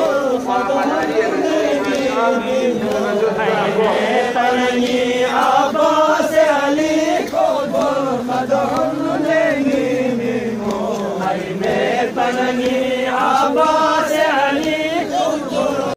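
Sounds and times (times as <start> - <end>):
men chanting a lament: 0.0 - 15.9.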